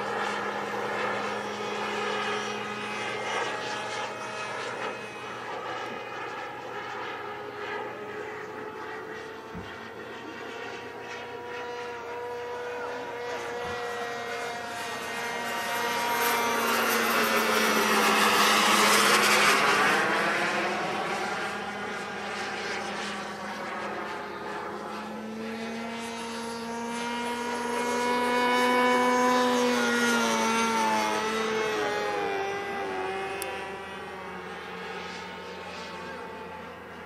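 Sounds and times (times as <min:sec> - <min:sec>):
model jet engine whine: 0:00.0 - 0:37.0.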